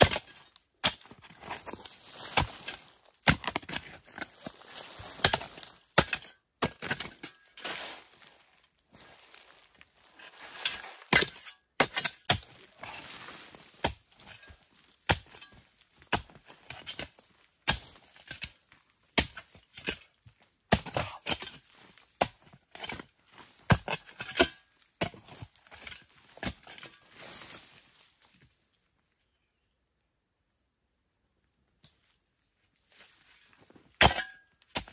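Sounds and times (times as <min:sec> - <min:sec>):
soil scraping and crumbling: 0:00.0 - 0:28.5, 0:32.7 - 0:34.9.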